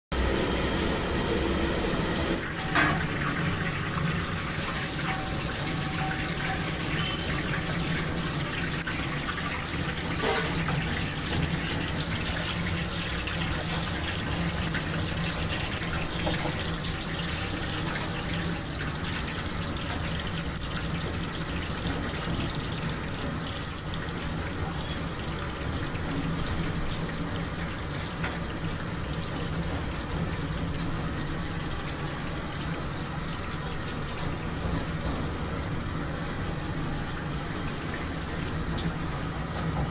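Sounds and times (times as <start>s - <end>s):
batter deep-frying in oil: 0.1s - 39.9s.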